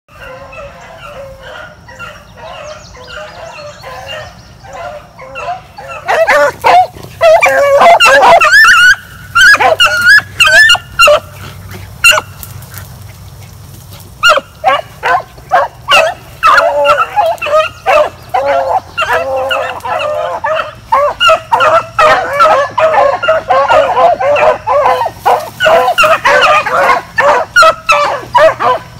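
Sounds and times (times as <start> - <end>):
hounds baying: 0.1 - 28.9.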